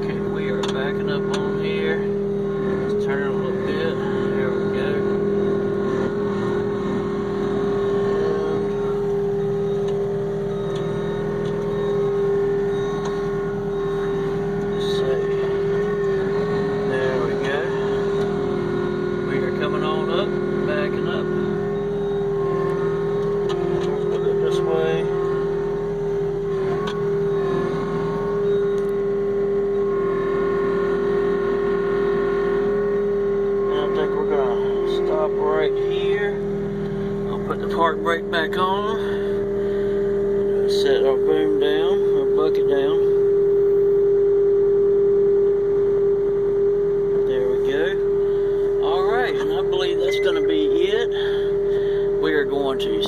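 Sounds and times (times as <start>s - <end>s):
diesel engine and hydraulics humming: 0.0s - 53.0s.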